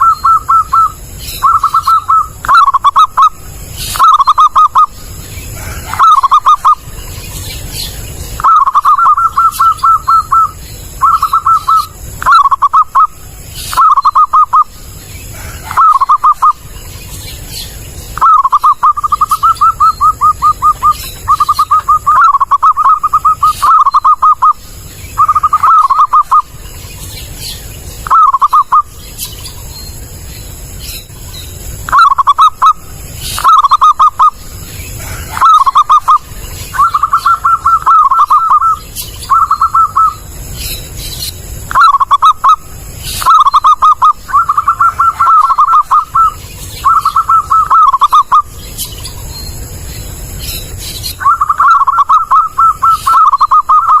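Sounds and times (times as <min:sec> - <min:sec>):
dove cooing: 0:00.0 - 0:16.8, 0:18.2 - 0:26.6, 0:28.0 - 0:28.9, 0:31.9 - 0:40.4, 0:41.4 - 0:48.5, 0:51.1 - 0:54.0.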